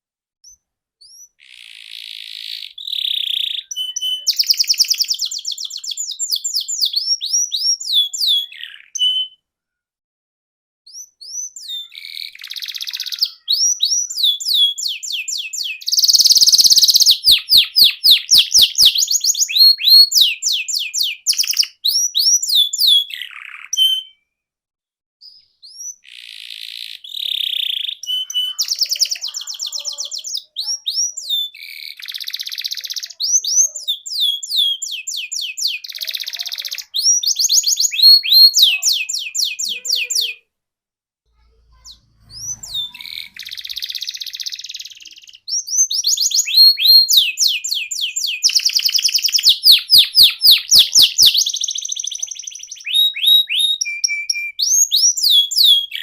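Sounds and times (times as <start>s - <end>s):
canary singing trills: 0.5s - 9.4s, 10.9s - 24.2s, 25.2s - 40.5s, 41.4s - 56.0s.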